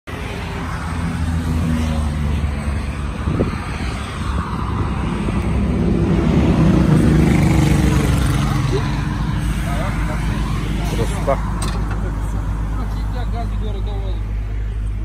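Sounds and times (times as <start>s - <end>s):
engine running low hum: 0.1s - 15.0s.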